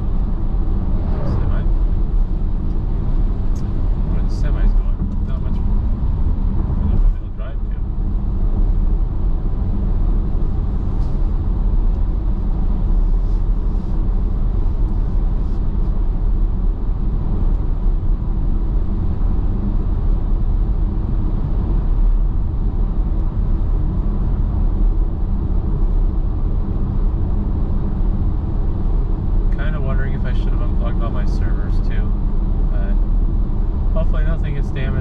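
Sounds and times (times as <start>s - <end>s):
road and tyre rumble in car: 0.0s - 35.0s.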